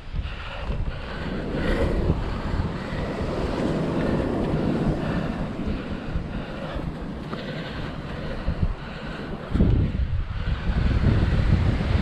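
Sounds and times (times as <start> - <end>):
surf washing on beach: 0.0 - 12.0
wind rumbling on microphone: 0.0 - 12.0.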